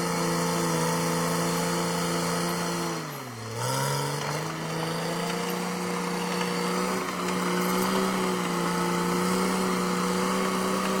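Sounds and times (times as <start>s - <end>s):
bulldozer diesel engine running: 0.2s - 11.0s.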